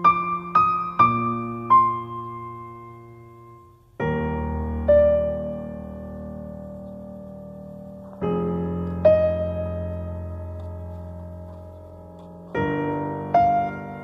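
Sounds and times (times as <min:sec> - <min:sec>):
slow piano notes: 0:00.0 - 0:14.0.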